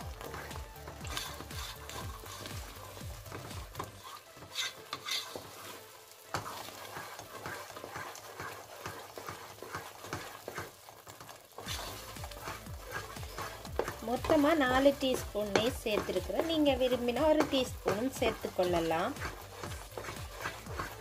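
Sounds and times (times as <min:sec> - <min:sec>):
light sizzle of ghee: 0:00.0 - 0:21.0
wooden spatula scraping metal pot: 0:00.0 - 0:21.0.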